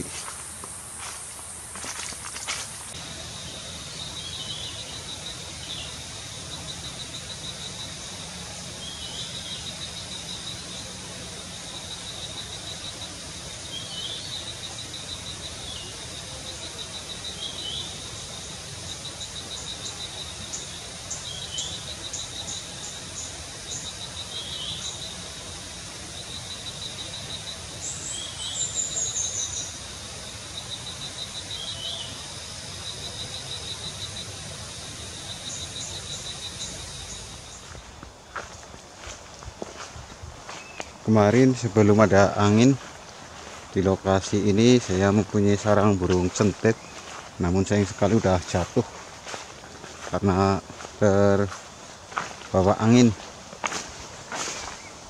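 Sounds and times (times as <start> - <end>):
insect trilling: 0.0 - 55.0.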